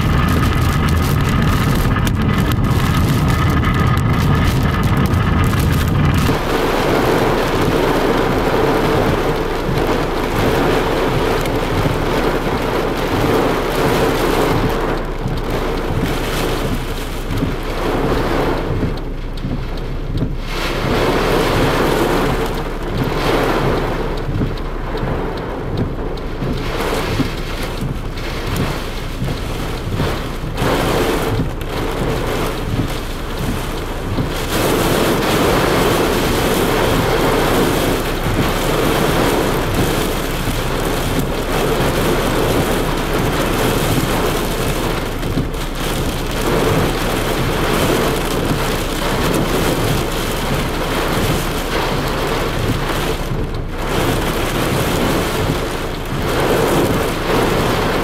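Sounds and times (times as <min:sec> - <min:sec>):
gusting wind: 0:00.0 - 0:58.0
heavy rain beating on a car: 0:00.0 - 0:58.0.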